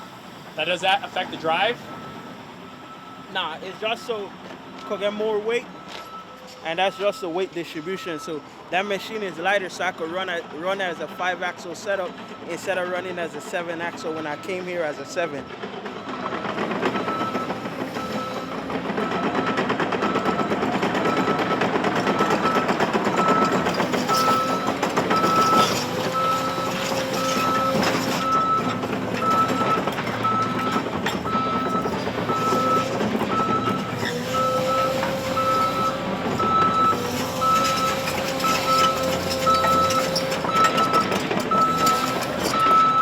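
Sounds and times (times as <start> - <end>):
diesel engine under load: 0.0 - 43.0
backup alarm beeping: 0.6 - 43.0.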